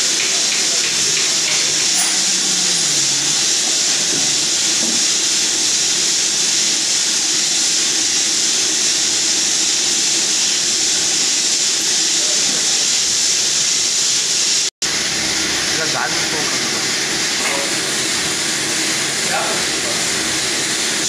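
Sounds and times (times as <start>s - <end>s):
loud hiss of air: 0.0s - 21.0s.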